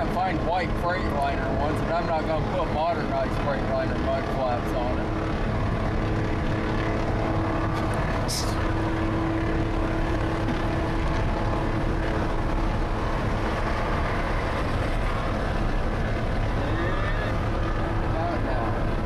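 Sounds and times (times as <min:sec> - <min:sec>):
road noise: 0:00.0 - 0:19.0
truck diesel engine drone: 0:00.0 - 0:19.0.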